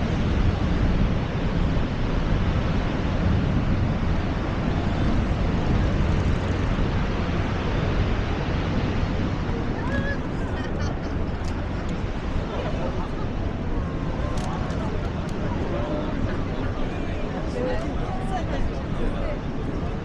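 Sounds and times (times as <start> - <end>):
waterfall roaring: 0.0 - 20.0
wind rumbling on microphone: 0.0 - 20.0.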